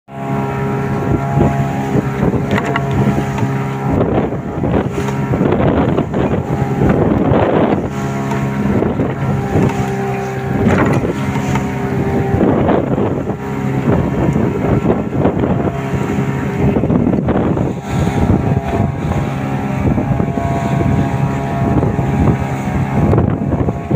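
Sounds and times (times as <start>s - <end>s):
boat engine running: 0.1s - 23.9s
water splashing against hull: 0.1s - 23.9s
wind buffeting microphone: 0.1s - 23.9s.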